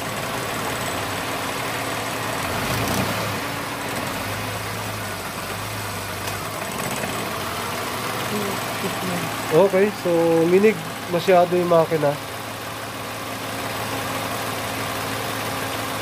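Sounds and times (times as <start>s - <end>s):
car engine idling roughly: 0.0s - 16.0s.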